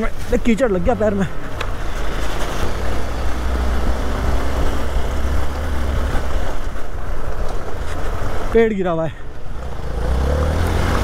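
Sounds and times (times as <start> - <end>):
wind hiss: 0.0 - 11.0.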